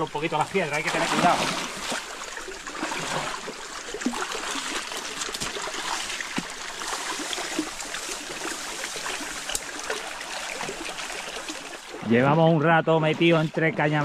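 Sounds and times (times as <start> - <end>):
river water trickling over stones: 0.0 - 14.0
splashes from wading: 0.3 - 14.0.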